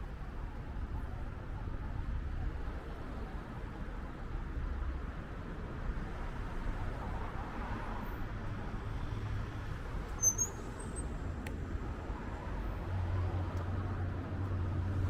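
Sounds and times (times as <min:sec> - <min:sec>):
street noise low rumble: 0:00.0 - 0:15.0.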